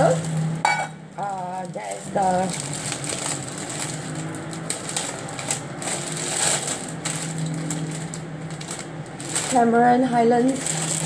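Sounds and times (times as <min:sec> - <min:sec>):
plastic bag crinkling: 0:00.0 - 0:00.6, 0:01.2 - 0:11.0.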